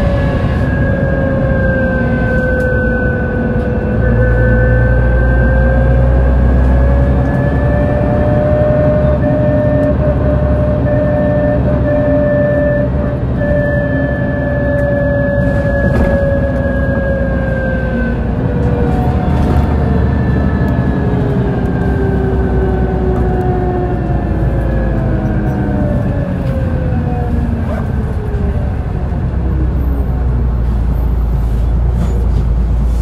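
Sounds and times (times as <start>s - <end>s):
engine whine falling in pitch: 0.0s - 30.6s
bus diesel engine rumbling: 0.0s - 33.0s.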